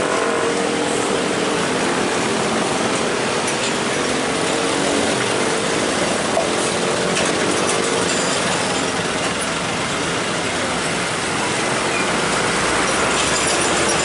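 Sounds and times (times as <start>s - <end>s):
motorcycle and scooter engines: 0.0s - 14.0s.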